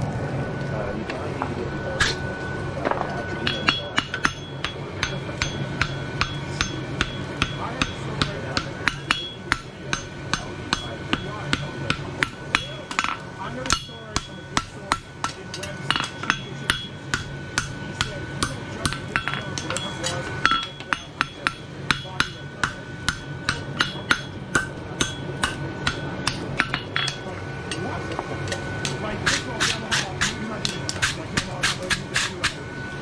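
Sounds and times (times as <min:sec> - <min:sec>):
hammer striking metal on anvil: 0:02.9 - 0:32.6.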